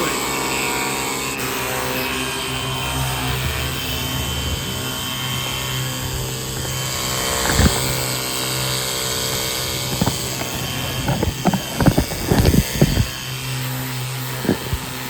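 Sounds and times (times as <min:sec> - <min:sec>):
pump motor humming: 0:00.0 - 0:15.0.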